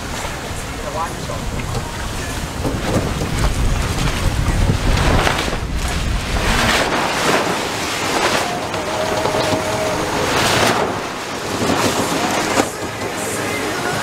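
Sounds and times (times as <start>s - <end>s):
wind buffeting microphone: 0.0s - 13.0s
water rushing past hulls: 0.0s - 14.0s.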